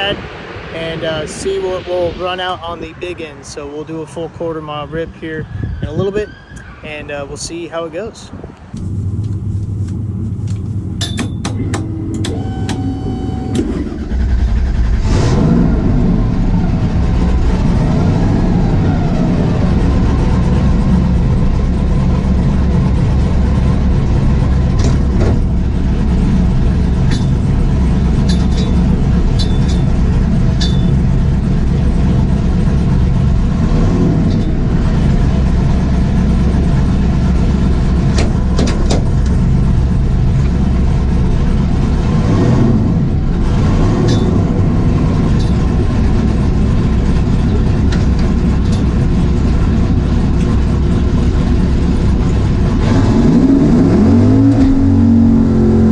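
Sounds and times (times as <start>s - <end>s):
engine idling: 8.7s - 53.6s.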